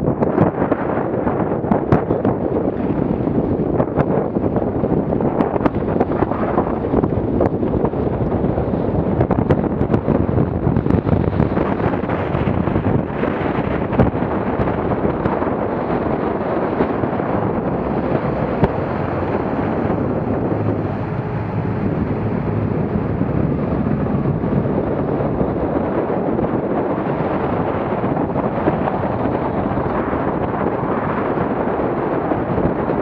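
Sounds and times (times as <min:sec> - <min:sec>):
motorboat through choppy water: 0:00.0 - 0:33.0
wind buffeting microphone: 0:00.0 - 0:33.0.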